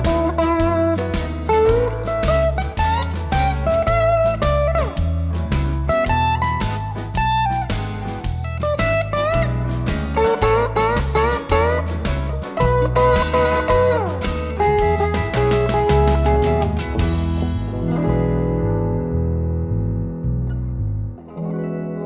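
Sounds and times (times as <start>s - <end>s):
blues backing track: 0.0s - 22.0s
electric blues guitar lead: 0.0s - 22.0s.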